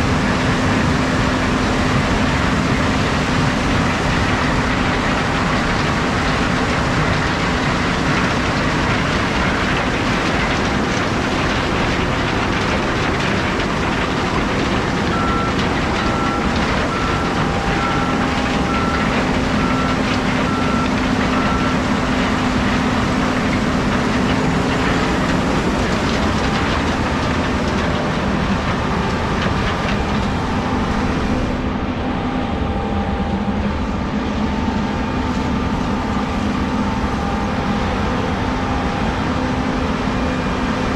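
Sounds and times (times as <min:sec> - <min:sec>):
harvest machinery running: 0:00.0 - 0:40.9.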